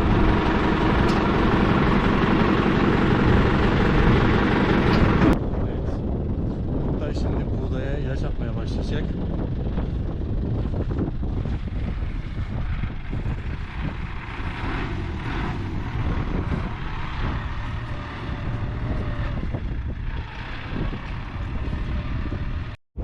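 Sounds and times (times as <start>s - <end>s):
tractor engine running steadily: 0.0s - 22.8s
wind rumbling on microphone: 0.0s - 23.0s.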